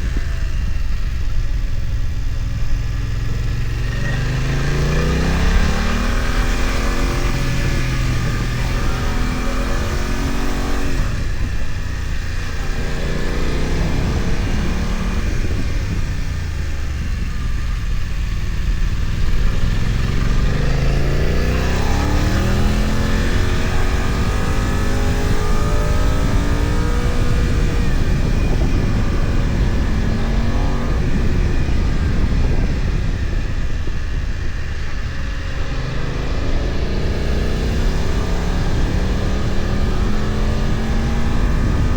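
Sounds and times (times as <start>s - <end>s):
motorcycle engine revving: 0.0s - 41.9s
steady rushing noise: 0.0s - 41.9s.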